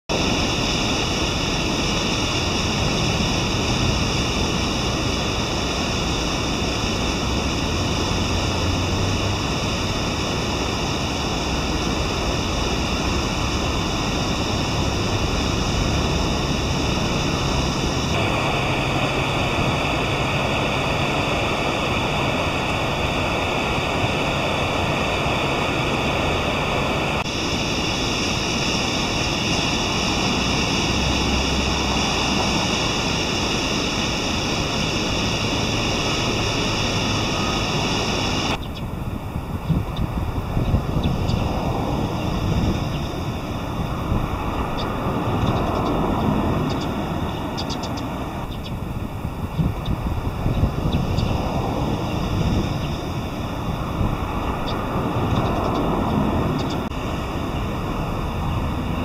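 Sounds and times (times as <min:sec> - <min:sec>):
river water rushing: 0:00.1 - 0:59.0.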